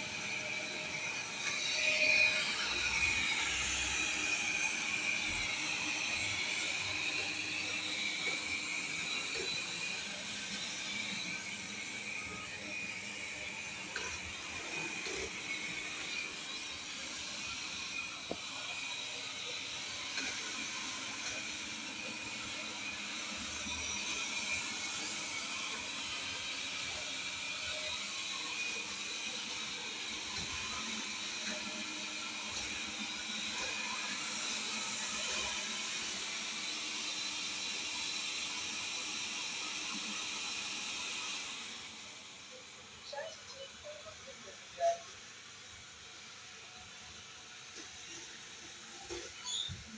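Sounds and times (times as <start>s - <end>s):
robot vacuum whirring: 0.0s - 49.9s.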